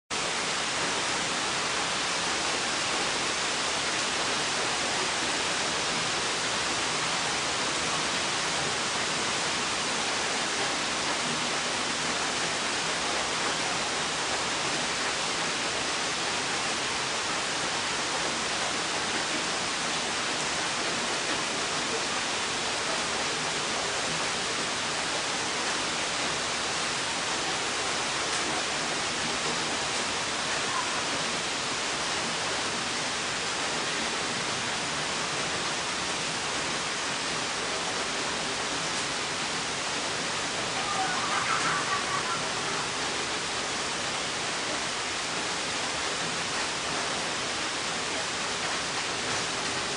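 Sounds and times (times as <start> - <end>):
rain falling: 0.1 - 49.9.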